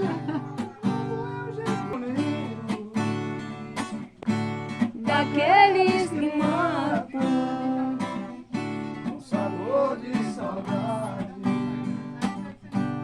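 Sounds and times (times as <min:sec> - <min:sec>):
person singing: 0:00.0 - 0:04.1, 0:04.7 - 0:13.0
acoustic guitar strumming: 0:00.0 - 0:13.0.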